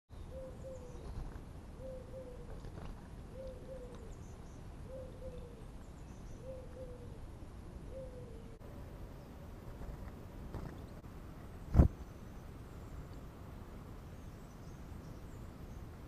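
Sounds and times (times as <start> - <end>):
small birds high chirps: 0.1 - 9.9, 10.5 - 16.0.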